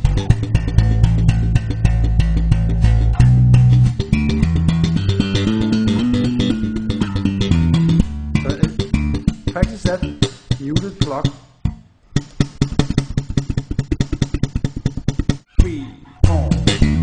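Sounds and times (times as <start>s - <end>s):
slap bass guitar: 0.0s - 17.0s.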